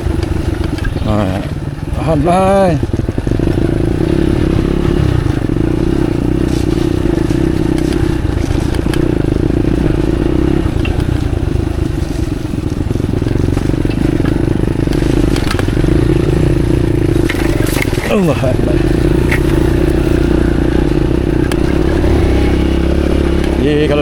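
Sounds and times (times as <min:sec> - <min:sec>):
motorcycle clicks and clatter: 0:00.0 - 0:23.9
motorcycle engine at low revs: 0:00.0 - 0:24.0.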